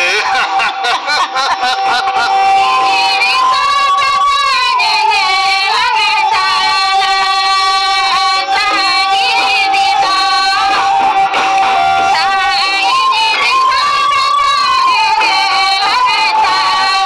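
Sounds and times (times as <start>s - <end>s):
high voice singing: 1.6s - 17.0s.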